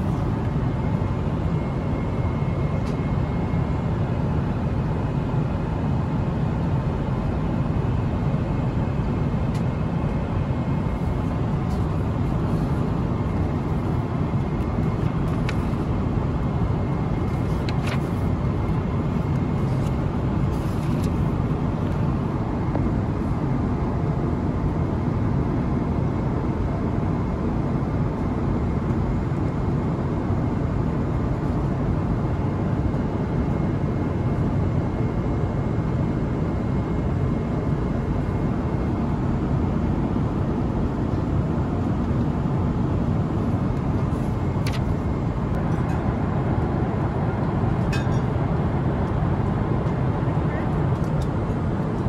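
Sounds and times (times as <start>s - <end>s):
airliner engines and airflow: 0.0s - 52.0s.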